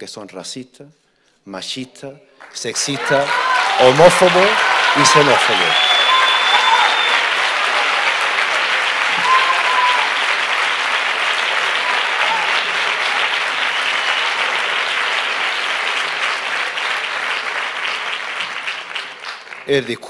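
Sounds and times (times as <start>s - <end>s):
audience applauding: 2.4s - 20.0s.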